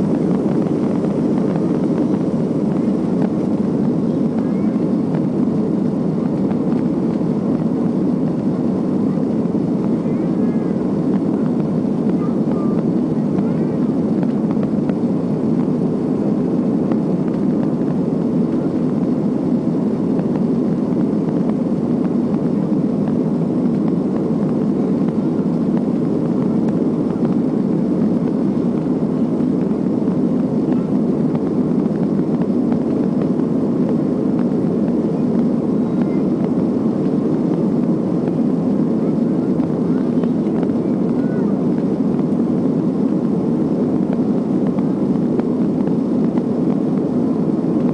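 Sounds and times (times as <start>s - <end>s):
airplane cabin engine drone: 0.0s - 47.9s.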